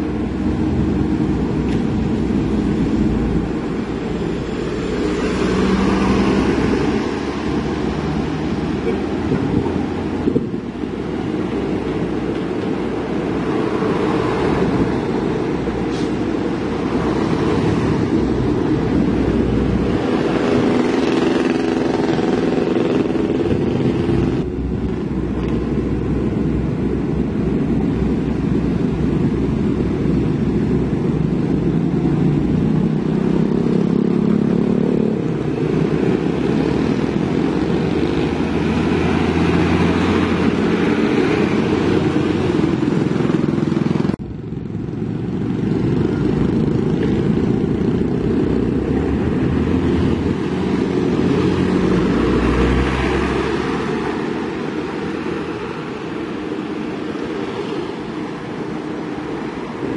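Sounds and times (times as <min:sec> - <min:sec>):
traffic engines running: 0:00.0 - 0:59.9
vehicle passing close by: 0:00.0 - 0:59.9.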